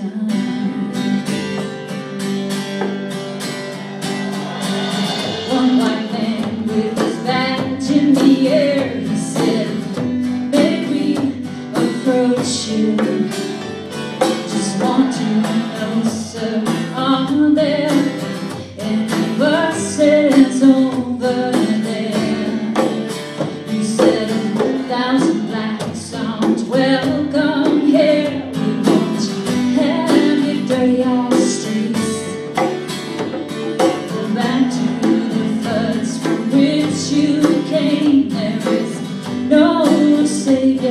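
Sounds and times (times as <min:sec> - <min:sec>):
woman singing: 0:00.0 - 0:02.0, 0:04.9 - 0:32.6, 0:34.0 - 0:40.9
second guitar: 0:00.0 - 0:40.9
strummed acoustic guitar: 0:00.0 - 0:40.9
hand drum beat: 0:01.2 - 0:40.9.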